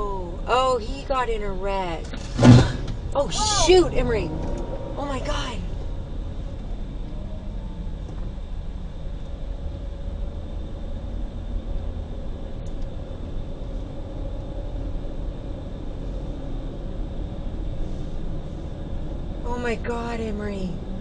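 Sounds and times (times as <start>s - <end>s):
car engine and road noise: 0.0s - 21.0s
faint steady whine: 0.0s - 21.0s.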